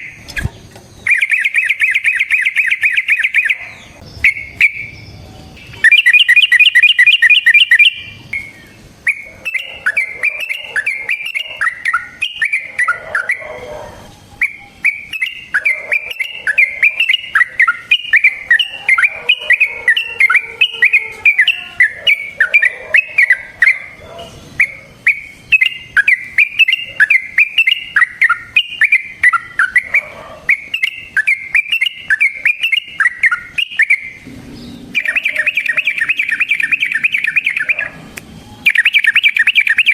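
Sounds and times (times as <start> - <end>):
bird singing bubbly chattering notes: 0.0 - 13.6, 14.3 - 37.9, 38.6 - 39.9.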